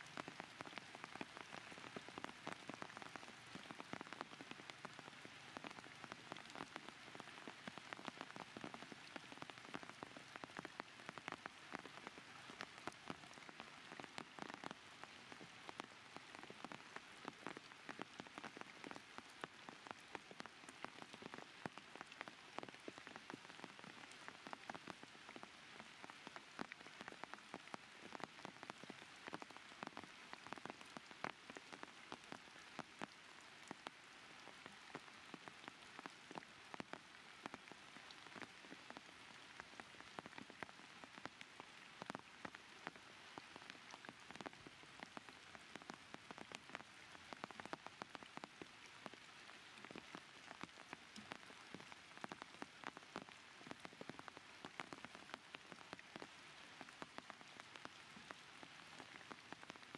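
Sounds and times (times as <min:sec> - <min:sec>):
raindrops pattering: 0:00.0 - 0:59.9.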